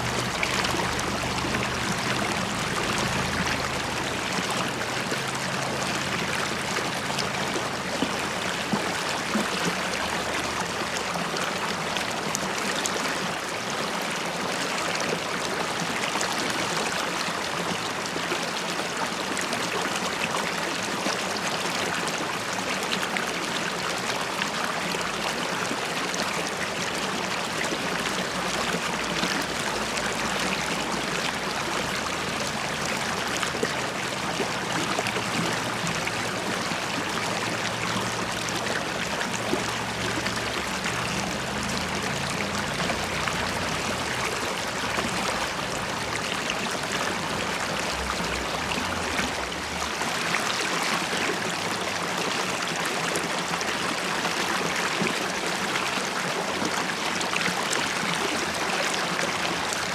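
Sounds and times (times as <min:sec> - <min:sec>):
river water over stones: 0:00.0 - 0:59.9.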